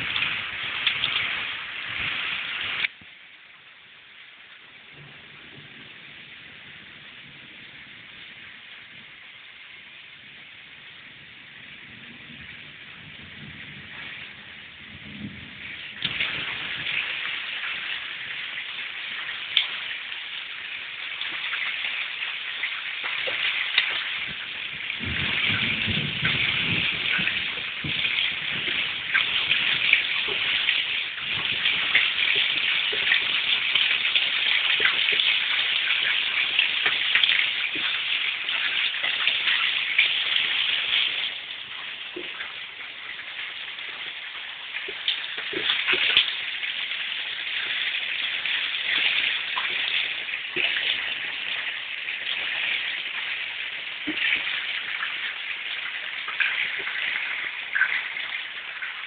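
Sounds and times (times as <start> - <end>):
heavy rain on standing water: 0.0 - 59.0.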